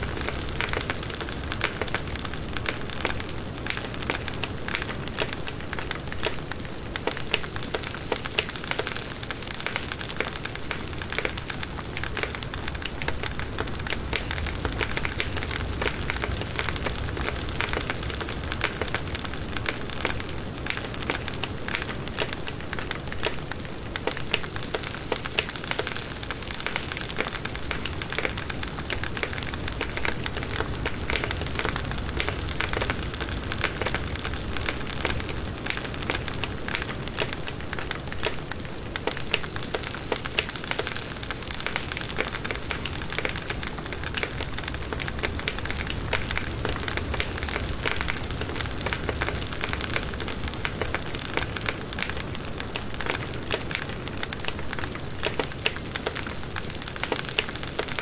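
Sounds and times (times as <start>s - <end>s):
low rumble of flame: 0.0s - 7.8s, 10.0s - 24.8s, 26.6s - 40.9s, 41.6s - 58.0s
campfire crackling and popping: 0.0s - 58.0s.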